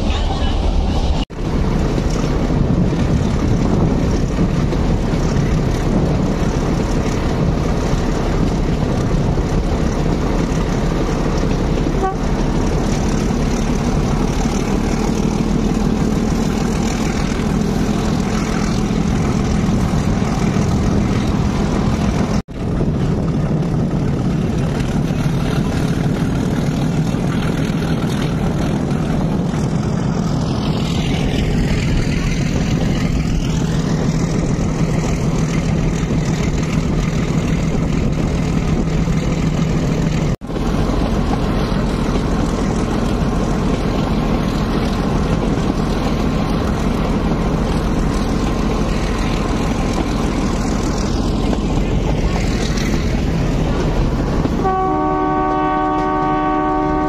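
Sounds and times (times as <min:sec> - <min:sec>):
diesel locomotive engine drone: 0:00.0 - 0:57.0
train wheel and rushing air noise: 0:00.0 - 0:57.0.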